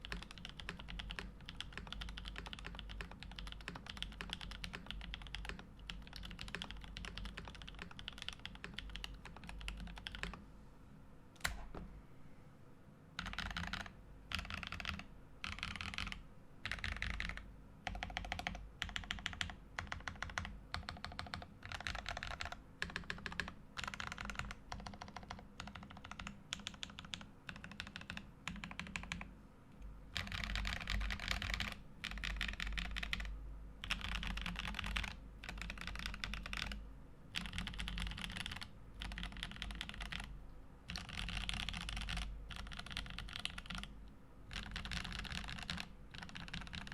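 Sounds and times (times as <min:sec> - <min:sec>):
mechanical keyboard typing: 0:00.0 - 0:10.4, 0:13.2 - 0:29.3, 0:30.1 - 0:40.3, 0:40.9 - 0:43.9, 0:44.5 - 0:46.9.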